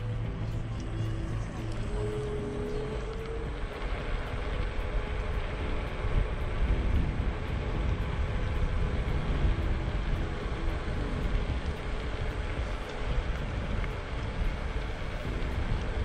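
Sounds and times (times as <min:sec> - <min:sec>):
faint motor whine: 0:00.0 - 0:16.0
wind buffeting microphone: 0:00.0 - 0:16.0.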